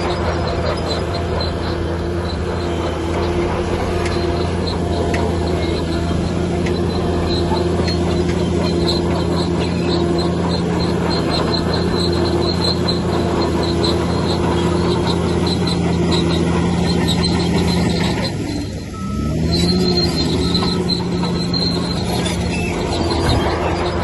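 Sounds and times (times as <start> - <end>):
bulldozer diesel engine running: 0.0 - 24.0
high squeaks: 0.0 - 24.0.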